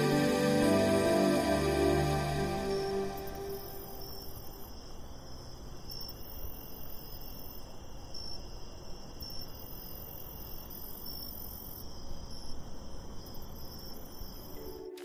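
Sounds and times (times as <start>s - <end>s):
background hiss: 0.0s - 15.0s
insects chirping: 0.0s - 15.0s.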